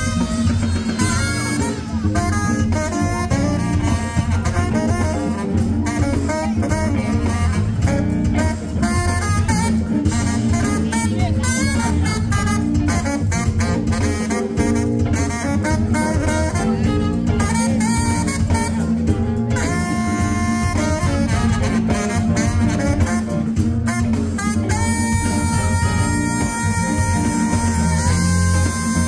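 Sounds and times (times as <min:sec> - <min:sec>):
band music: 0:00.0 - 0:29.0.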